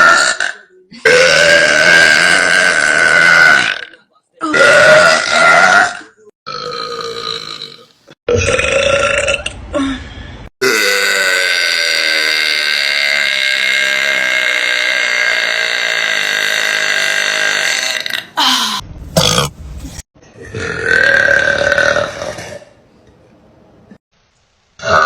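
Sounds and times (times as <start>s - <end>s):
woman belching loudly: 0.0s - 9.6s, 10.6s - 19.5s, 20.4s - 22.6s.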